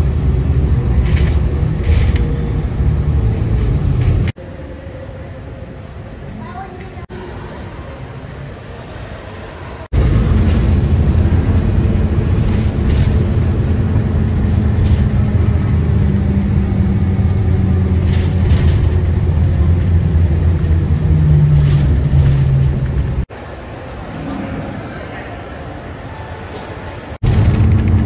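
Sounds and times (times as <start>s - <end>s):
jet airliner engine rumble: 0.0s - 28.0s.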